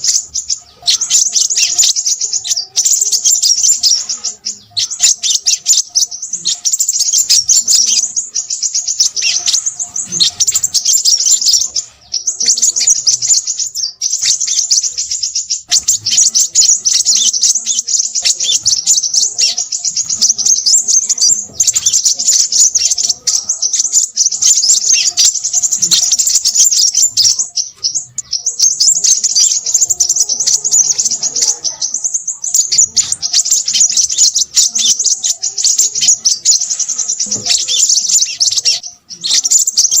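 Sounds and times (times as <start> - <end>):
bird twittering chatter: 0.0 - 40.0.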